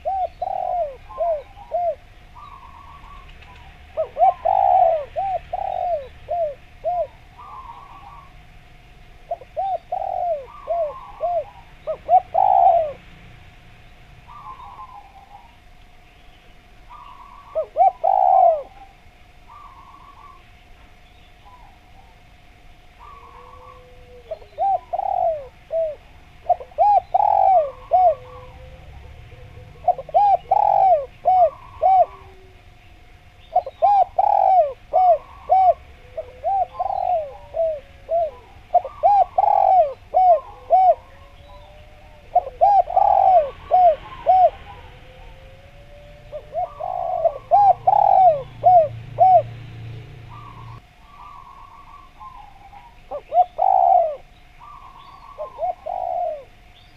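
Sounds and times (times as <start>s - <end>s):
dove cooing: 0.0s - 13.3s, 14.2s - 15.7s, 16.7s - 56.9s.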